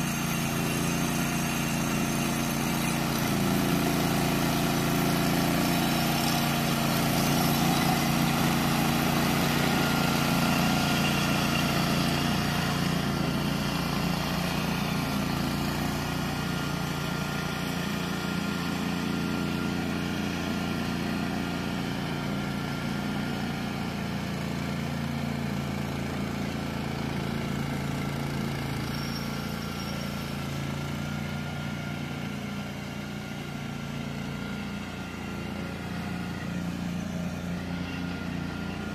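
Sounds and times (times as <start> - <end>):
lawn mower engine cutting weeds: 0.0 - 38.9.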